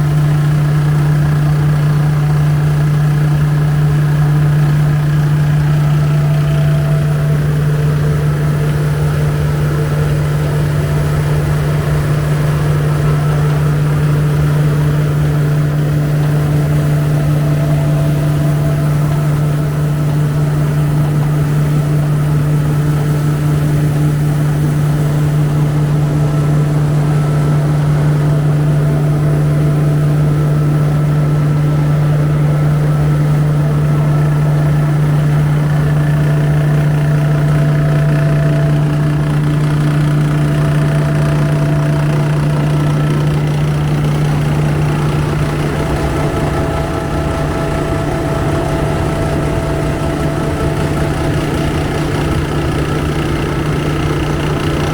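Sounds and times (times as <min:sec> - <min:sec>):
rice husker humming: 0:00.0 - 0:54.9.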